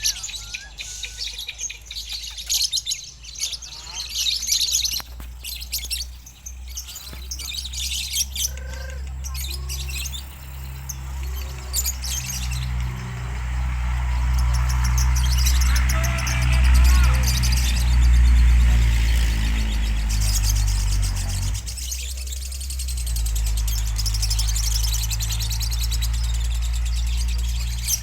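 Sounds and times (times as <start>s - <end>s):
bird chirping trills: 0.0s - 28.0s.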